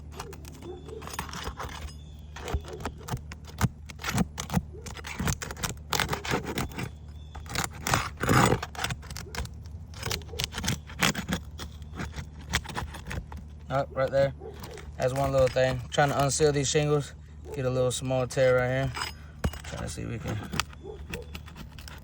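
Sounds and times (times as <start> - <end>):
roof shingles scraping and crackling: 0.0 - 22.0.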